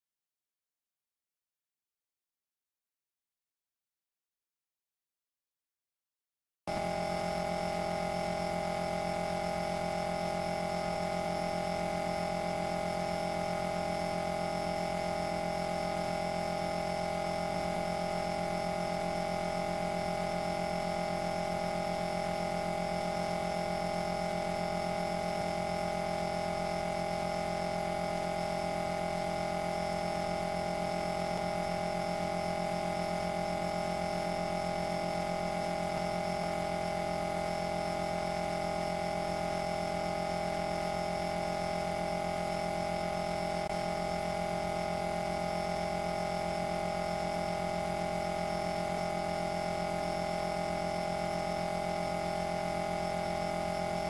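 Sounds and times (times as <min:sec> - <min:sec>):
steady multi-tone hum: 0:06.7 - 0:54.0.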